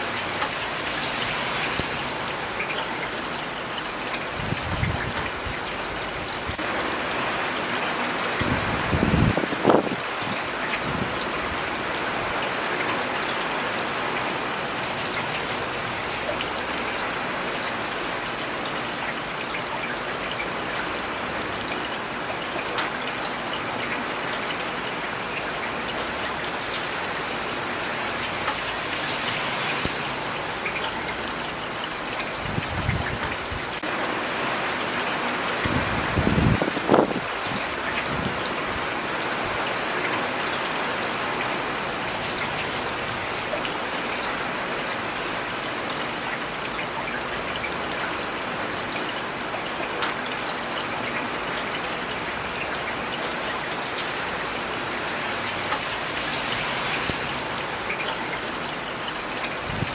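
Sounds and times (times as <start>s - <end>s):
steady rain on city surfaces: 0.0s - 59.9s.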